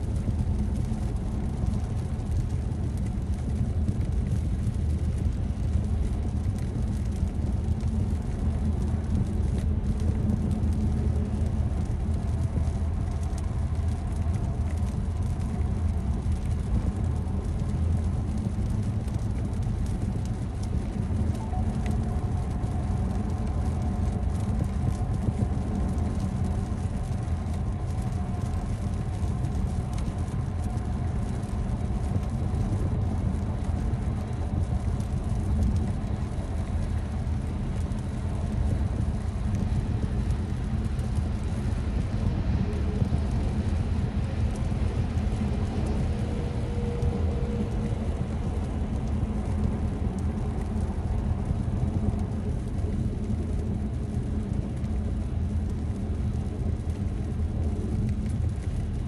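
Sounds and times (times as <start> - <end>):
road and tyre noise in car: 0.0 - 59.0.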